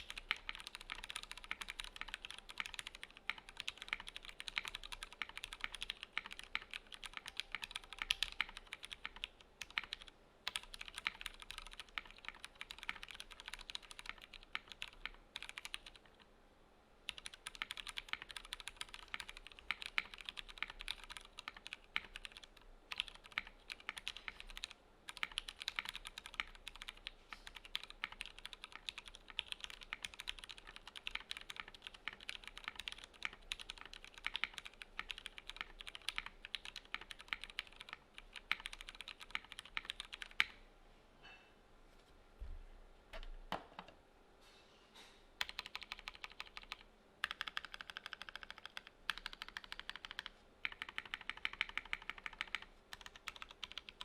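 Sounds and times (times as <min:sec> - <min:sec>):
fast typing on mechanical keyboard: 0:00.0 - 0:16.2, 0:17.1 - 0:40.6, 0:45.4 - 0:54.0.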